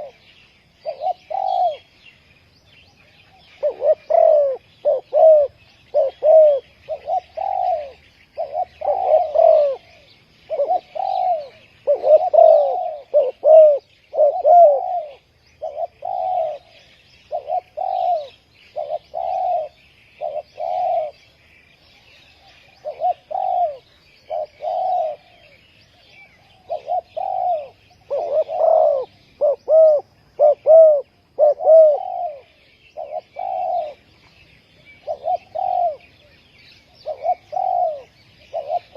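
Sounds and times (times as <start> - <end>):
doves cooing: 0.0 - 2.0, 3.0 - 21.4, 22.0 - 38.9.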